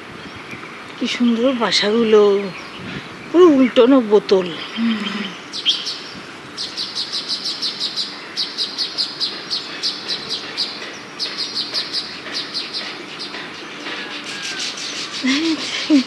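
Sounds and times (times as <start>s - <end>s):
birds chattering in high chirps: 0.1s - 16.0s.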